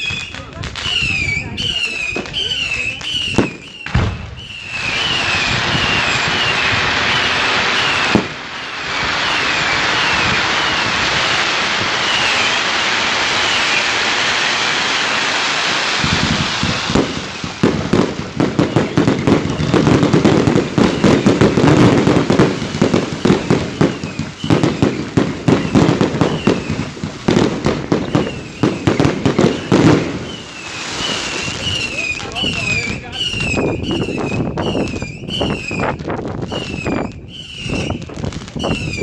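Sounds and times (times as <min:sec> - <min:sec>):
fireworks crackling and banging: 0:00.0 - 0:39.0
fireworks hissing: 0:00.0 - 0:39.0.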